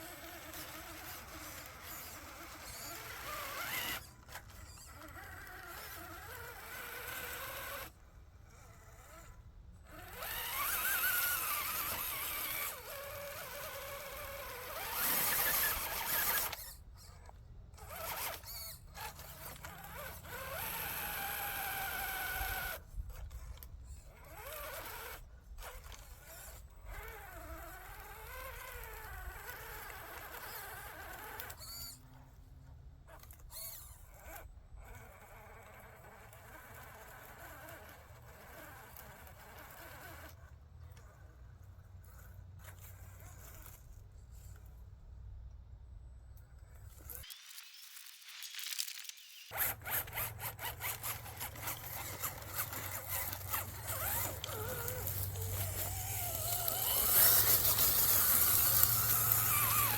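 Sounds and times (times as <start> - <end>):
small electric motor whining: 0.0 - 44.8, 46.6 - 59.9.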